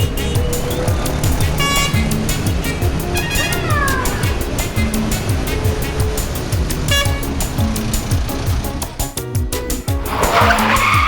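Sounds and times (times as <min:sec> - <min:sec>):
low drum thumps: 0:00.0 - 0:10.2
ticking hi-hats: 0:00.0 - 0:11.0
upbeat background music: 0:00.0 - 0:11.0.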